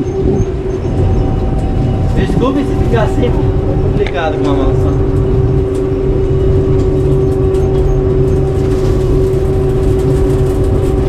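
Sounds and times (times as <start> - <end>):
combine harvester engine drone: 0.0 - 11.0
steady machine whine: 0.0 - 11.0.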